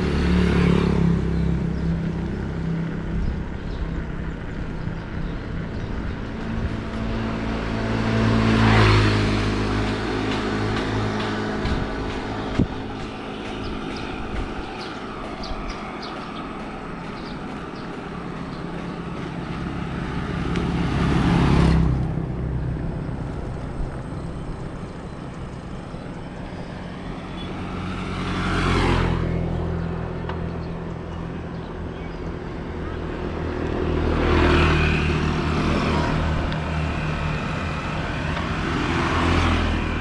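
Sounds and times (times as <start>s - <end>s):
motor vehicles passing: 0.0s - 40.0s.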